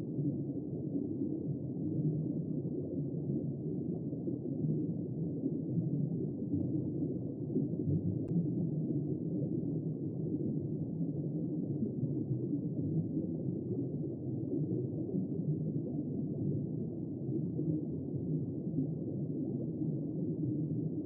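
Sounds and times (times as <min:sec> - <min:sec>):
muffled rumble of moving water: 0:00.0 - 0:21.0.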